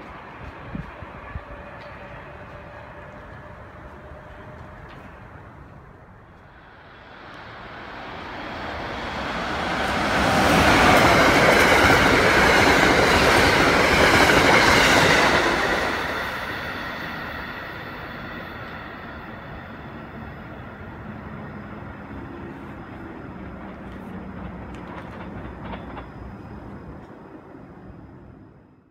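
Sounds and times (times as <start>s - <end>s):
passenger train passing: 0.0s - 28.9s
wheels rushing on rail: 0.0s - 28.9s.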